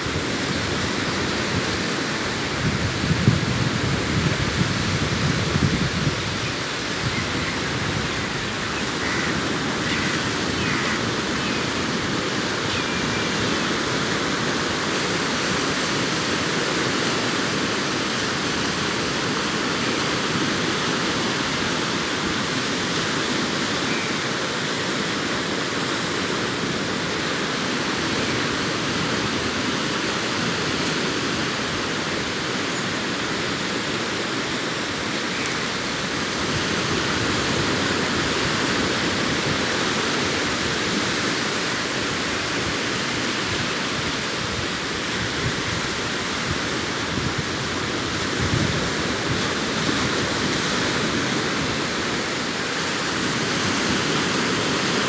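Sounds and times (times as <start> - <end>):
sea waves washing onto beach: 0.0 - 55.0.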